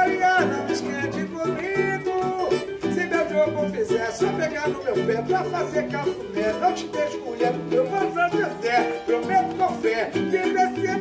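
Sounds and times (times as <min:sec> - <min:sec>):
man singing: 0:00.0 - 0:11.0
strummed cavaquinho and guitar: 0:00.0 - 0:11.0.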